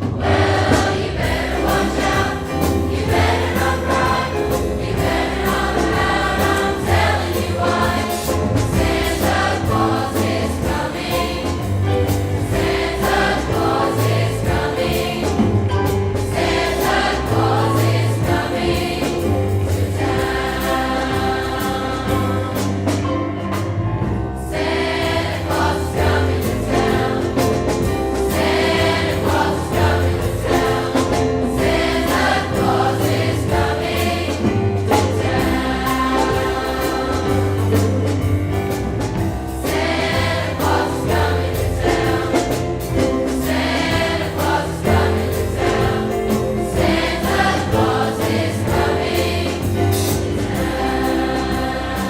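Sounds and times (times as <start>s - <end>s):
choir singing christmas song: 0.0s - 52.0s
instrumental accompaniment: 0.0s - 52.0s.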